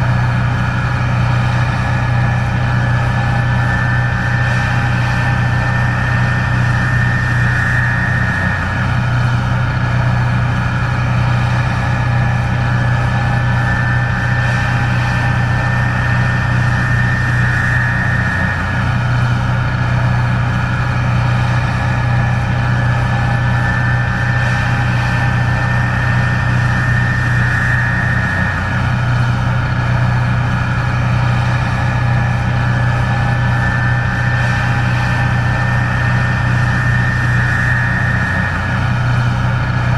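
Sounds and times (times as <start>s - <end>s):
combine engine drone: 0.0s - 39.9s
high whine of machine drives: 0.0s - 39.9s.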